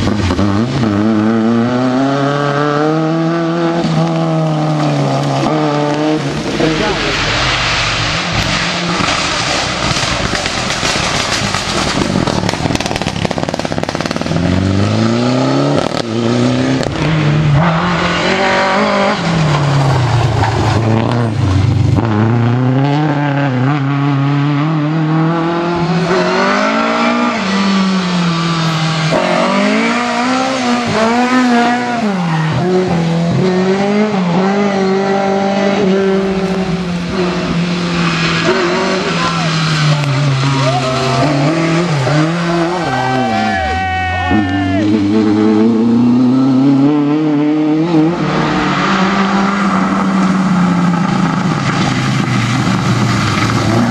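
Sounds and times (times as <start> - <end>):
rally car engine at full throttle: 0.0 - 53.9.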